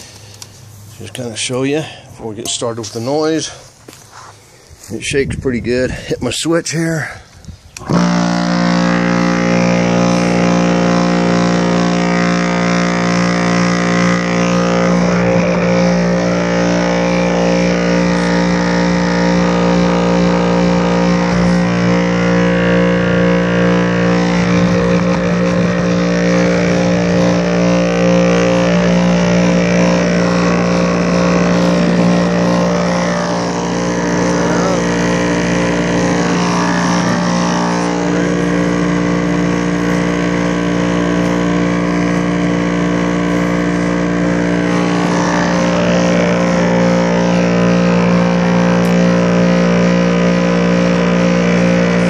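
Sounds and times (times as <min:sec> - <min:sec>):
motor shaker humming and vibrating: 0:00.0 - 0:05.7, 0:07.4 - 0:52.0.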